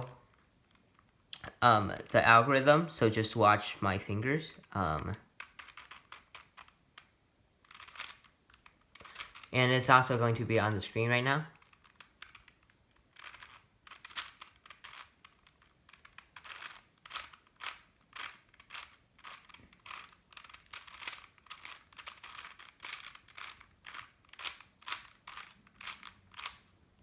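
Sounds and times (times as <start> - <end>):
puzzle cube plastic clicks and swishes: 0.2 - 27.0.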